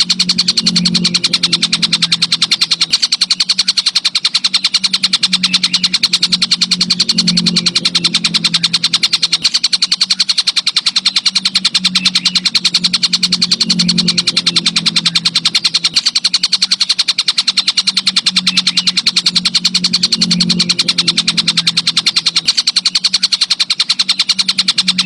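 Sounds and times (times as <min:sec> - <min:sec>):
insect stridulation: 0:00.0 - 0:25.0
low hum: 0:00.0 - 0:25.0.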